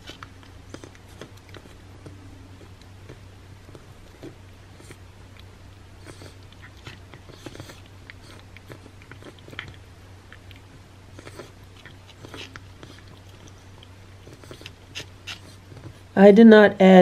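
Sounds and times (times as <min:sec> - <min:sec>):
low hum: 0:00.0 - 0:16.2.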